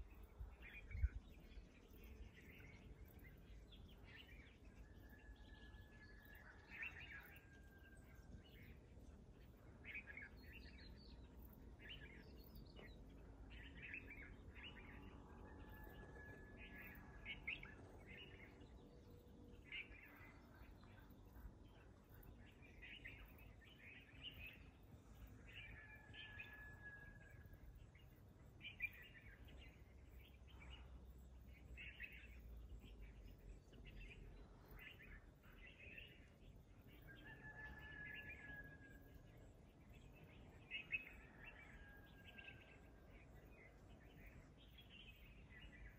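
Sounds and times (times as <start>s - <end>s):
faint low rumble: 0.0s - 37.2s
wild birds chirping: 0.0s - 45.9s.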